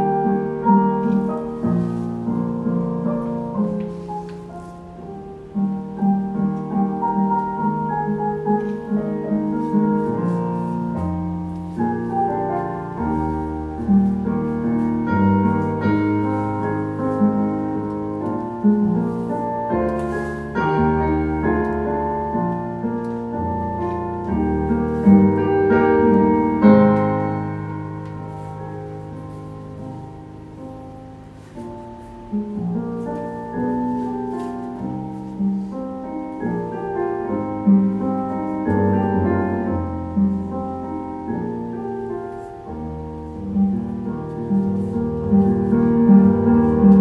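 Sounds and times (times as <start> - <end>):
piano chords with bass line: 0.0 - 47.0.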